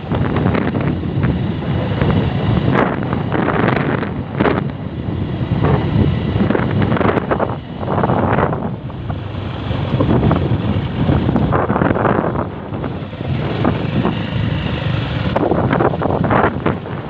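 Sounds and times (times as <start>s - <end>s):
vehicle rumbling on gravel road: 0.0s - 17.0s
wind buffeting the microphone: 0.0s - 17.0s.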